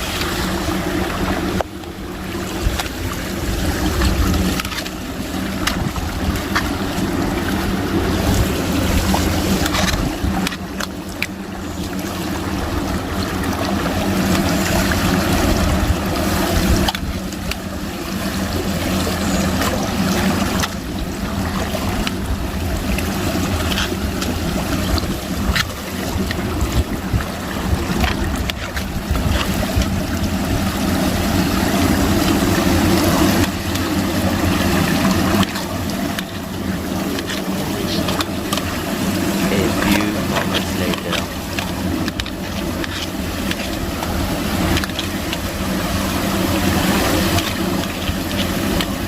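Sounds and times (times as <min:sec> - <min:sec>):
low wind rumble: 0:00.0 - 0:49.0.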